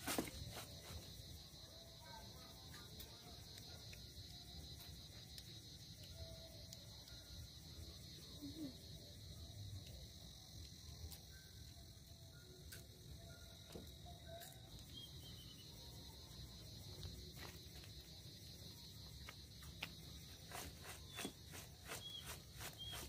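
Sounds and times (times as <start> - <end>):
night insects chirring: 0.0 - 23.0.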